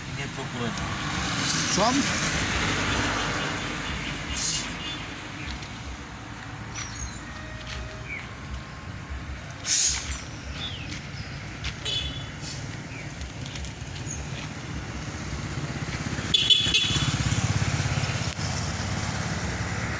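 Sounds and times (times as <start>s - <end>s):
engine low rumble: 0.0s - 19.9s.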